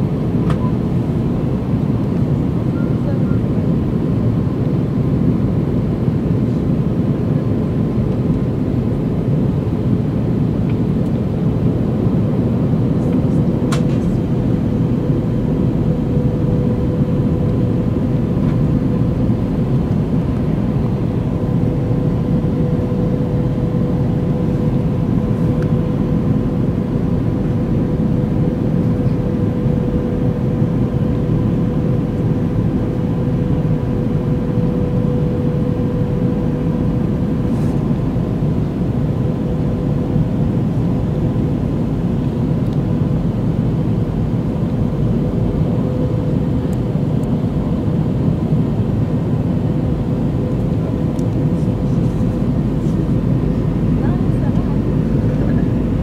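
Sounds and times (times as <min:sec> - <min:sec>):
jet engines and airflow rushing: 0:00.0 - 0:56.0.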